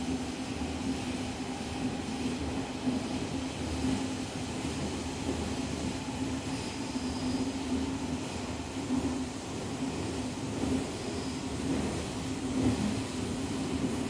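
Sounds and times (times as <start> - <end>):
train carriage rumble: 0.0 - 14.0.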